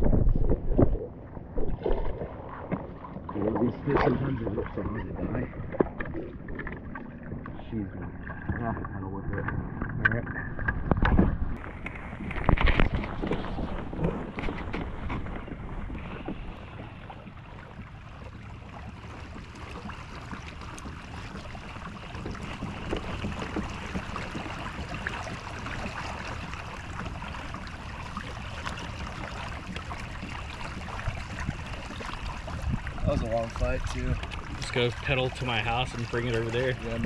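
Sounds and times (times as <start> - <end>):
wind on microphone: 0.0 - 2.3, 3.3 - 35.1
water lapping against kayak hull: 0.0 - 37.0.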